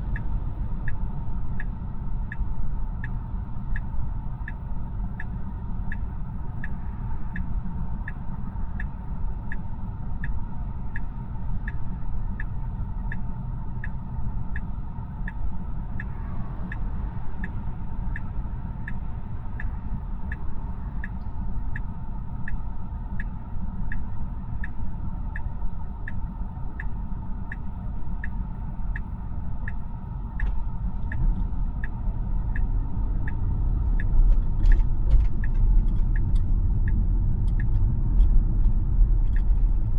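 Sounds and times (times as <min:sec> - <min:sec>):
car cabin road noise rumble: 0:00.0 - 0:39.9
turn signal ticking: 0:00.0 - 0:39.9.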